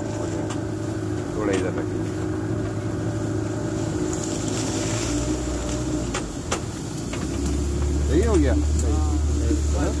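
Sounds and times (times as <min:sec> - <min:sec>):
reeds brushing against hull: 0:00.0 - 0:10.0
small boat motor running: 0:00.0 - 0:10.0.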